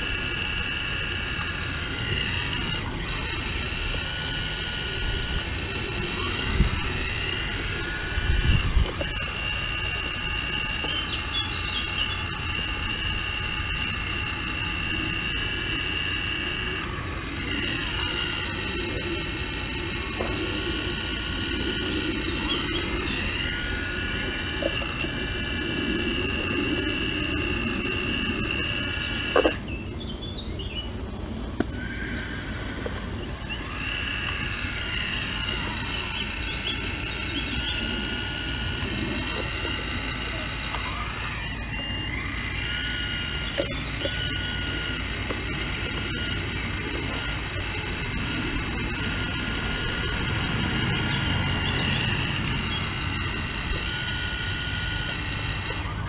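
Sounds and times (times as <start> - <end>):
diesel engine running: 0.0 - 29.7, 31.4 - 56.0
high-pitched hydraulic whine: 0.0 - 56.0.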